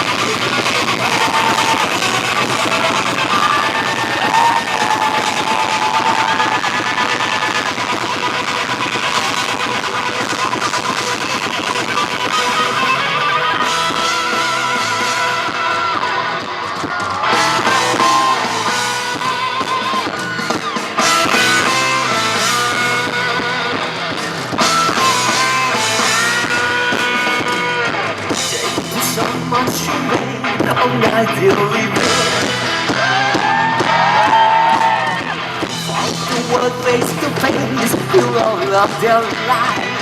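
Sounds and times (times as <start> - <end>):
bass guitar: 0.0 - 40.0
drums: 0.0 - 40.0
electric guitar lead: 0.0 - 40.0.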